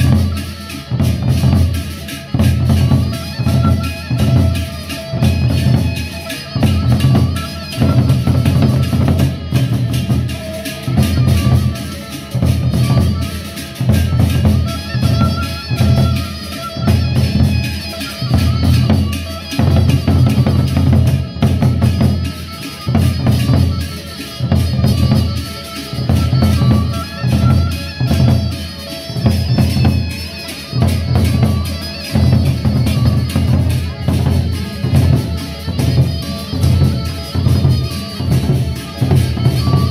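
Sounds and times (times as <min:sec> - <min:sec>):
barrel drums beaten with sticks: 0:00.0 - 0:39.9
bright clattering drum strokes: 0:00.0 - 0:39.9.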